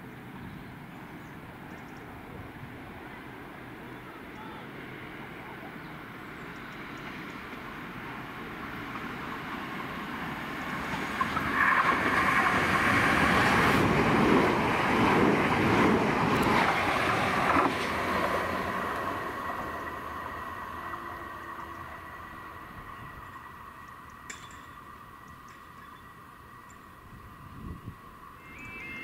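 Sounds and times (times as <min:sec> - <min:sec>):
electric train passing with whine: 0:00.0 - 0:29.0.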